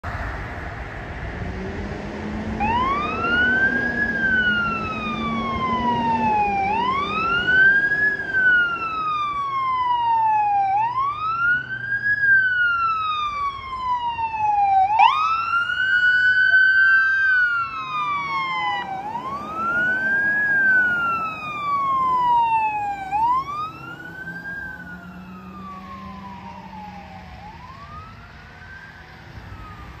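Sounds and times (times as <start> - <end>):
vehicle engine noise: 0.0 - 30.0
ambulance siren wailing: 2.5 - 30.0.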